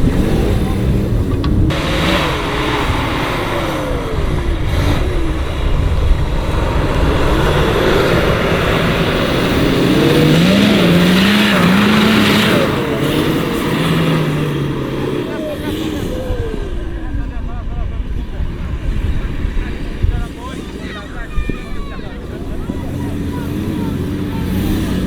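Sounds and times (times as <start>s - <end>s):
off-road engine revving: 0.0s - 25.0s
steady rushing noise: 0.0s - 25.0s.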